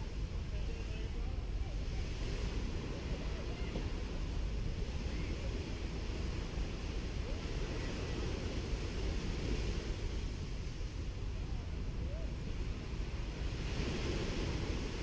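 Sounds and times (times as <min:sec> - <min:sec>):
sea waves washing onto beach: 0:00.0 - 0:15.0
wind rumble on microphone: 0:00.0 - 0:15.0.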